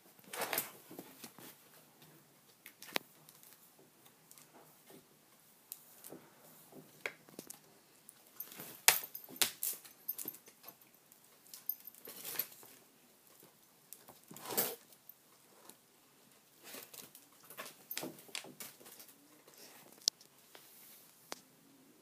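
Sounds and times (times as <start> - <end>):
soft rustles and clicks: 0.1 - 21.5.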